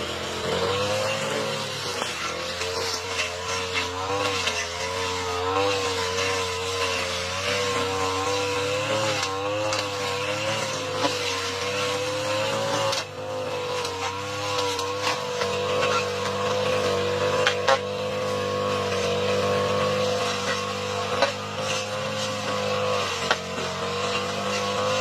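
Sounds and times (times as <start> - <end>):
lawn mower engine cutting grass: 0.0 - 25.0.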